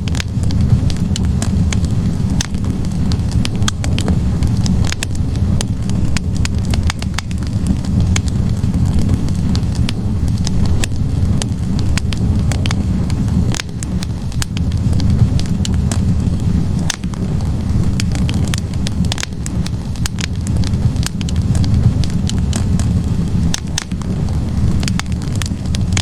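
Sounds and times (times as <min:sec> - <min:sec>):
logs crackling and popping: 0:00.0 - 0:26.0
roar of flames: 0:00.0 - 0:26.0.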